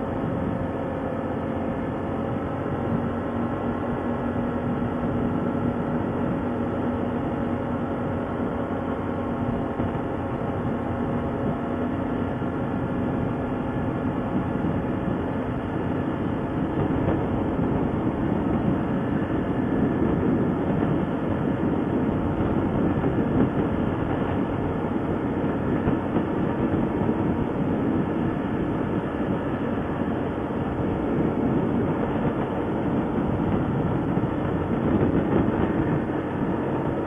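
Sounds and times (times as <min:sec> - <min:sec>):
atv engine running: 0:00.0 - 0:37.0
rattle and rumble over trail: 0:00.0 - 0:37.0.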